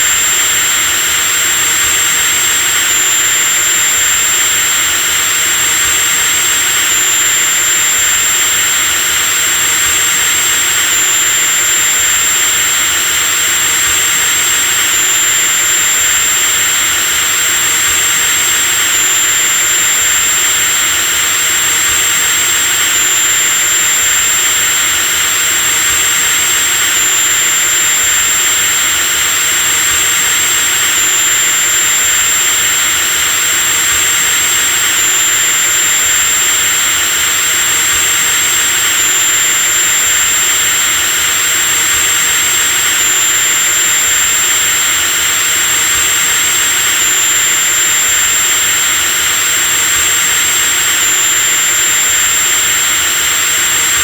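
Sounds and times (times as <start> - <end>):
electric drill running: 0.0 - 54.0
thin high whine: 0.0 - 54.0.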